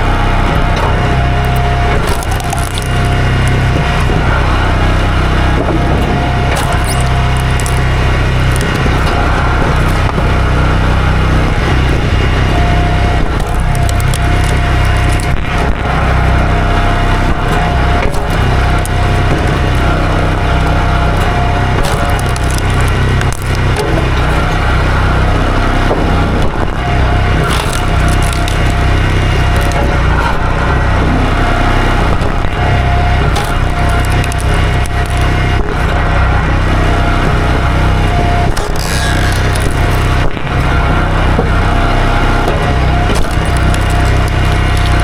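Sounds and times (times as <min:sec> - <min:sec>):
small gasoline engine running: 0:00.0 - 0:45.0.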